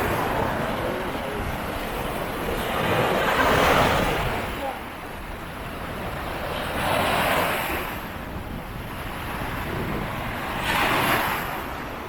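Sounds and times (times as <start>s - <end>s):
surf washing onto beach: 0.0s - 12.0s
wind rumble on microphone: 0.0s - 12.0s.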